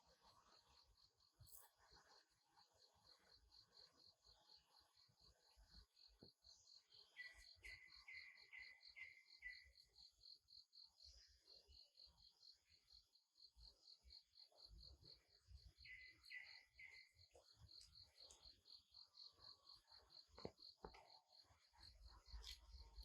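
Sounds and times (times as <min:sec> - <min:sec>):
insect chirping: 0:00.1 - 0:23.0.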